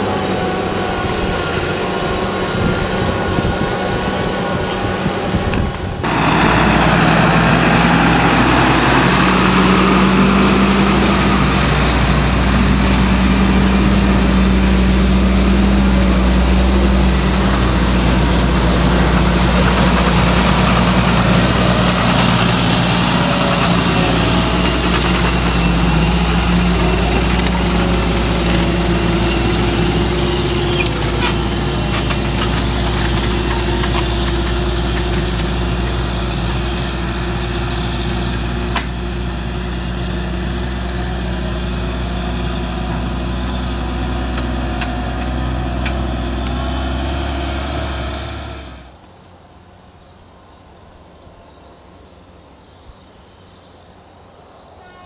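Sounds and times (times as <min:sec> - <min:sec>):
tractor diesel engine running: 0:00.0 - 0:53.2.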